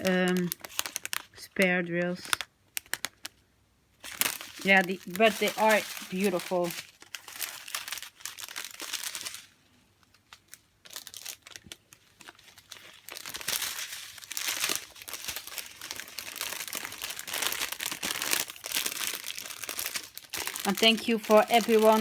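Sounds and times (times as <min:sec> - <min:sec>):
plastic bags crinkling: 0:00.0 - 0:03.4, 0:04.0 - 0:22.0.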